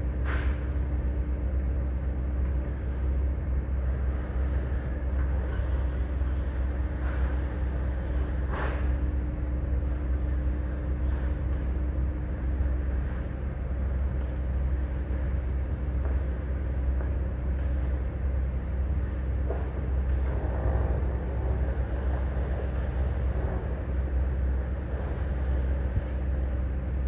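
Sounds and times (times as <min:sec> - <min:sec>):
diesel machinery rumbling: 0:00.0 - 0:27.0.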